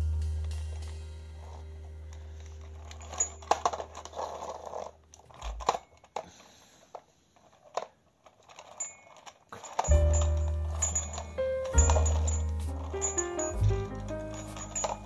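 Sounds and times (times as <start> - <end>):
toy rattling scrapes: 1.4 - 15.0.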